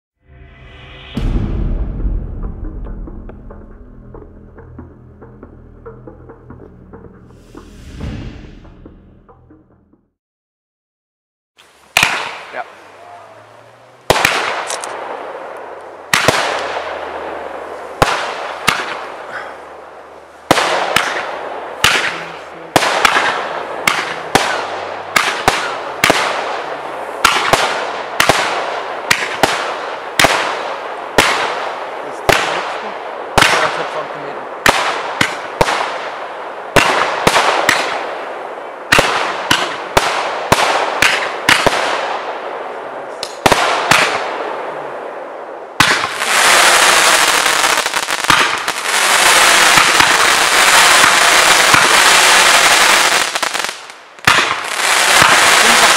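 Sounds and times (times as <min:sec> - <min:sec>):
fireworks bursting with echo: 0:00.3 - 0:09.6, 0:11.6 - 0:12.9, 0:14.0 - 0:55.9.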